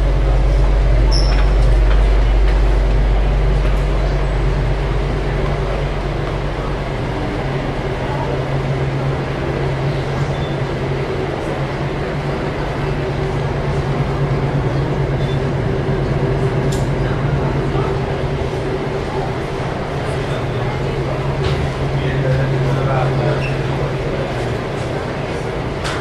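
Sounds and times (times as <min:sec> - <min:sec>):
faint voices: 0:00.0 - 0:26.0
low rumbling hum: 0:00.0 - 0:26.0.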